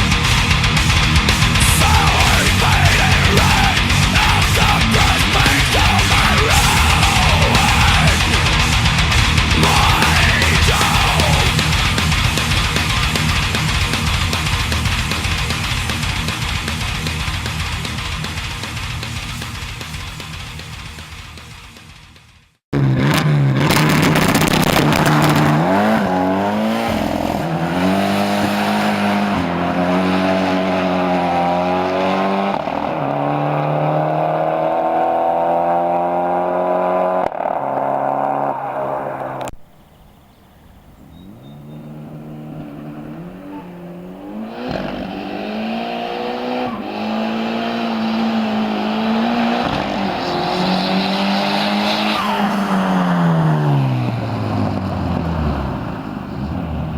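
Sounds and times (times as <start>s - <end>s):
car engine accelerating through gears: 0.0s - 19.6s, 22.8s - 39.5s, 41.2s - 56.9s.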